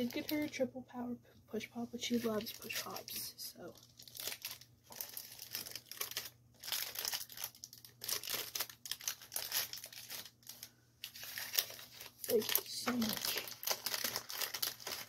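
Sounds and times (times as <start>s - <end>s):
plastic wrappers crinkling: 0.0s - 0.7s, 2.0s - 15.0s.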